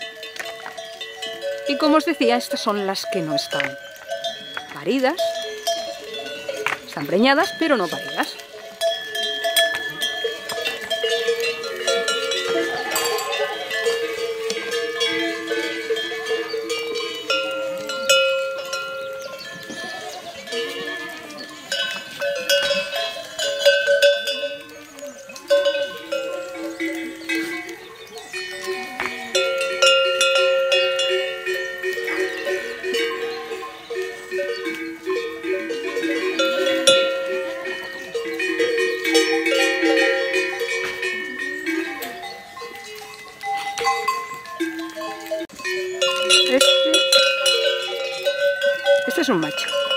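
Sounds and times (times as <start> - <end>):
goat bells clanking: 0.0 - 49.9
goats bleating: 0.0 - 49.9.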